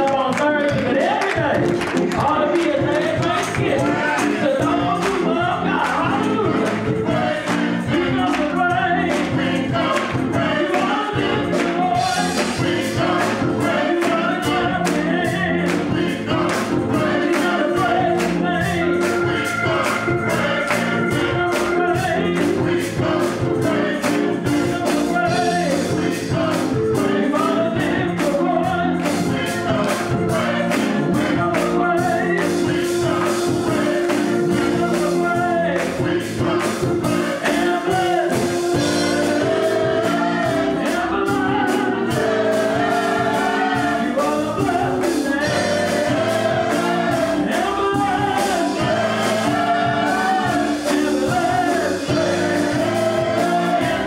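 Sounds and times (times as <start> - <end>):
drum kit beat: 0.0 - 54.0
gospel choir singing: 0.4 - 54.0.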